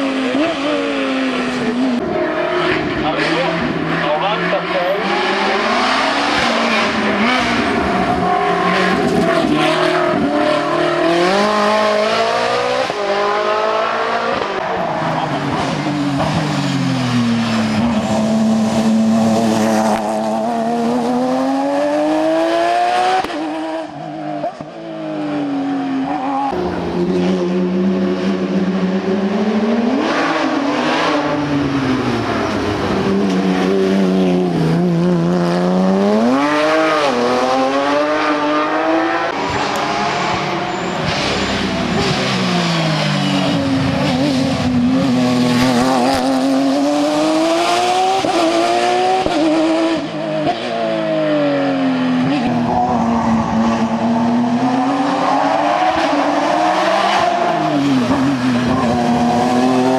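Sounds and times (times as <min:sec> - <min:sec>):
racing car engine at full throttle: 0:00.0 - 0:59.9.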